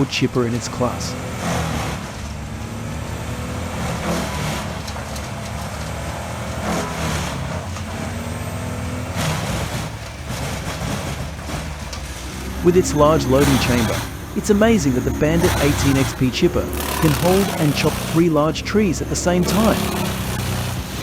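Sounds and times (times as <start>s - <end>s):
wood chipper engine running: 0.0s - 21.0s
wood being chipped: 0.7s - 21.0s.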